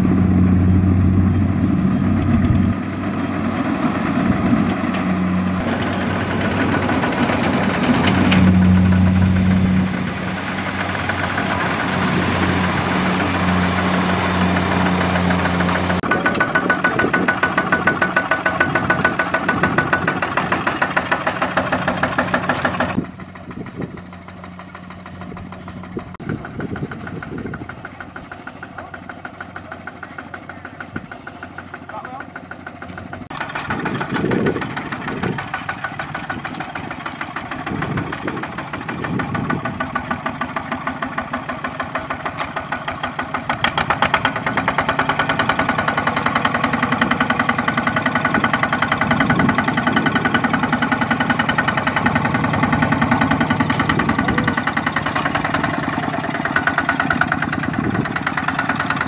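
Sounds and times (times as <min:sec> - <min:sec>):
diesel tractor engine knocking: 0:00.0 - 0:59.0.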